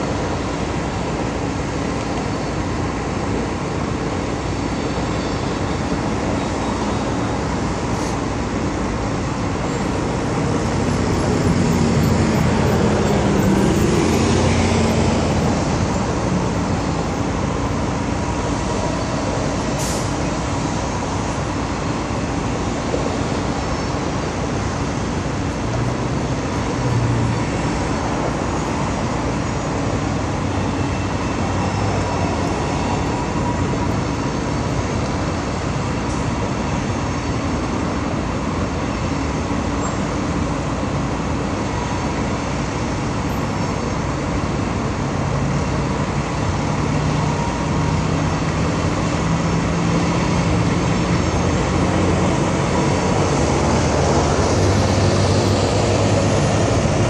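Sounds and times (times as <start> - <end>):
highway traffic rumble: 0.0 - 57.0
passing vehicle engines humming: 0.0 - 57.0.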